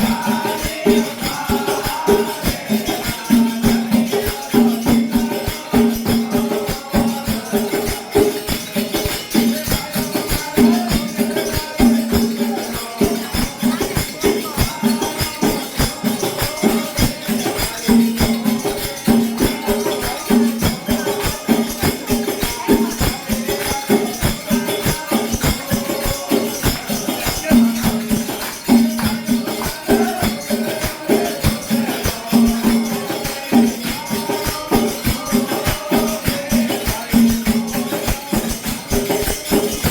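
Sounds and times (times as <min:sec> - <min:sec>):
drum strikes: 0:00.0 - 0:39.9
jingling shaker percussion: 0:00.0 - 0:39.9.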